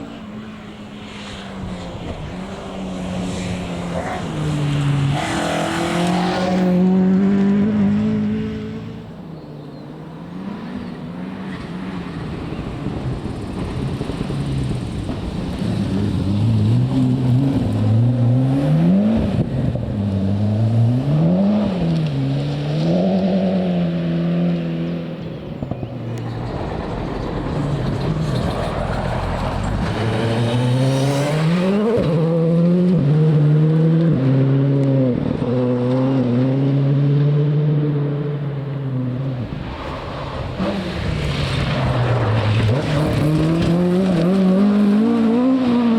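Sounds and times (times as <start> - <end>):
rally car engine revving: 0.0 - 9.2, 10.1 - 45.9.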